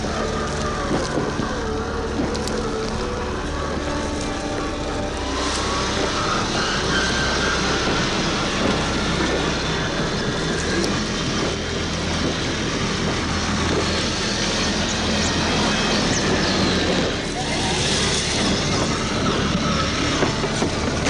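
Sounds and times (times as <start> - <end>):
electric motor whining: 0.0 - 21.0
tyres crunching over stones: 0.0 - 21.0.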